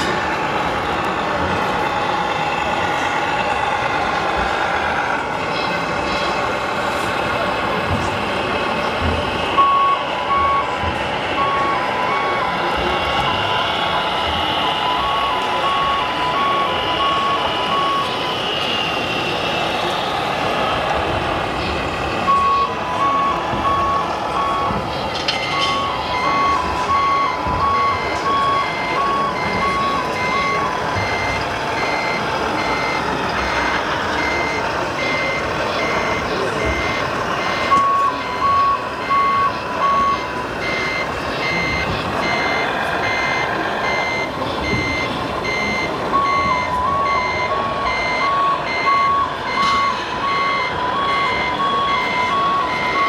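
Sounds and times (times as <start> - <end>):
crowd murmur in a hall: 0.0 - 53.0
reversing beeper: 0.0 - 53.0
two-tone warning warble: 0.0 - 53.0.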